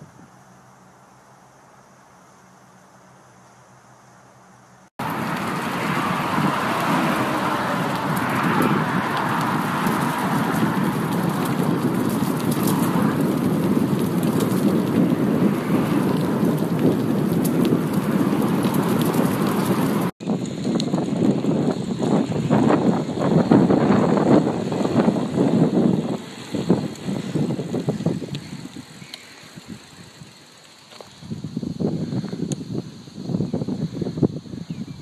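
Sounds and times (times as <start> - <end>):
bicycle tyres on dirt track: 0.0 - 35.0
bike rattles and clicks: 5.0 - 34.2.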